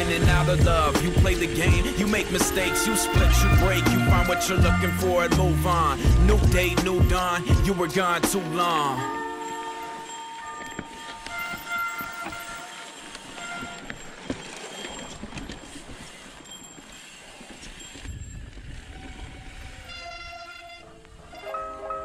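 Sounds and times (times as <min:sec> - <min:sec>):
mountain bike riding rumble: 0:00.0 - 0:22.0.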